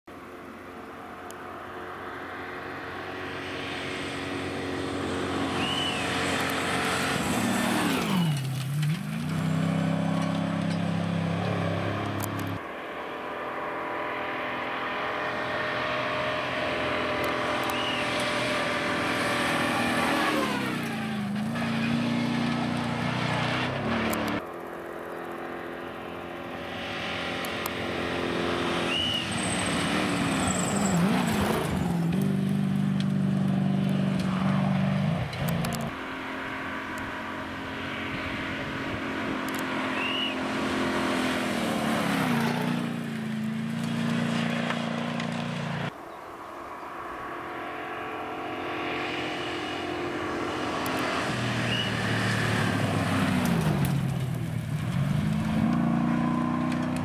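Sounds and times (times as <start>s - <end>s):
trucks passing at speed: 0.1s - 57.0s.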